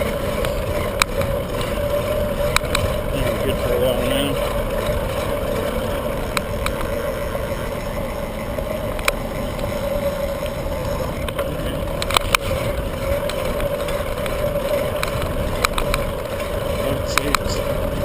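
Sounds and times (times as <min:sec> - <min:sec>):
sharp clicks and rattles: 0:00.0 - 0:18.0
steady hum: 0:00.0 - 0:18.0.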